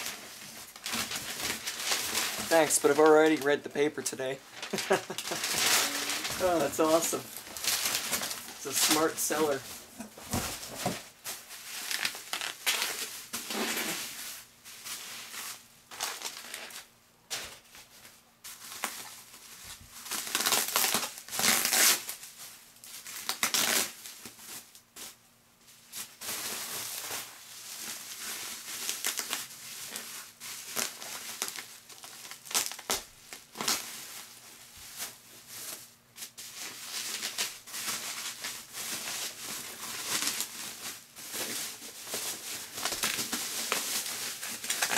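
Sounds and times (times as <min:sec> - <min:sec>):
bubble wrap rustling: 0:00.0 - 0:44.9.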